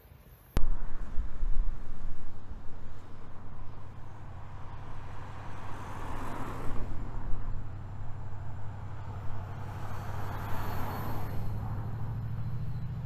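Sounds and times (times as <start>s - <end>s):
diesel locomotive engine drone: 0.6s - 13.0s.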